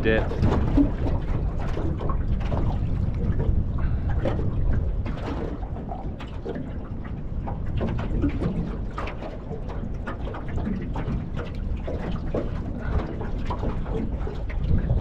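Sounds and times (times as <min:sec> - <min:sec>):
water slapping against boat hull: 0:00.0 - 0:15.0
wind rumble on microphone: 0:00.0 - 0:15.0.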